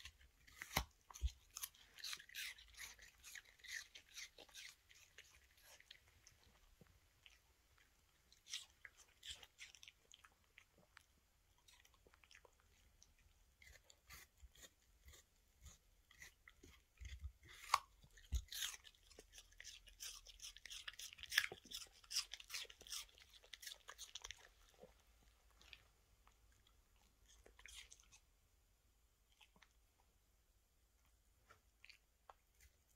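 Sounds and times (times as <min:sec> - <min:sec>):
dog crunching apple: 0:00.0 - 0:28.3.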